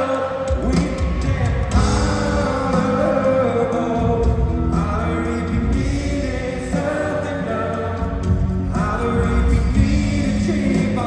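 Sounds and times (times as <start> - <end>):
live band music with vocals: 0.0 - 11.0.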